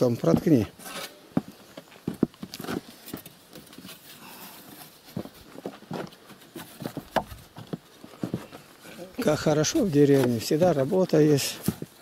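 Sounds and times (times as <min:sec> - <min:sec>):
footsteps on wooden deck: 0:00.1 - 0:12.0.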